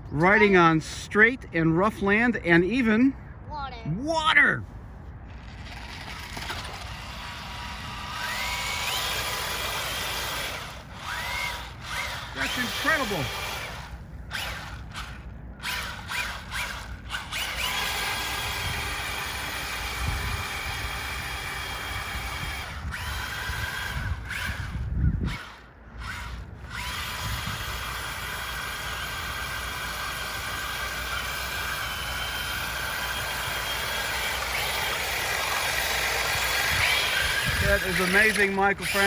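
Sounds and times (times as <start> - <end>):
toy electric motor whining: 5.4 - 39.0.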